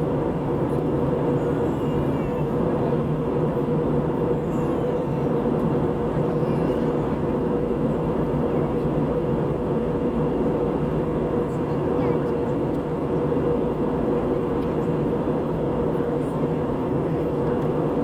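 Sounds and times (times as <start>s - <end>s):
airliner cabin engine drone: 0.0s - 18.0s.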